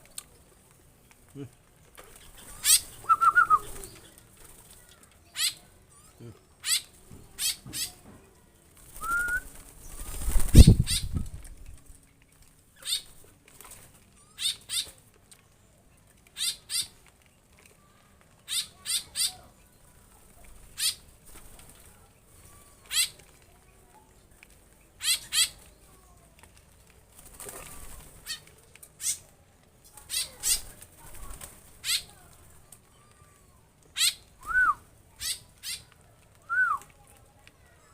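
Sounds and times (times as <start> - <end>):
birds fluttering: 0.0 - 37.9
rustle: 0.0 - 37.9.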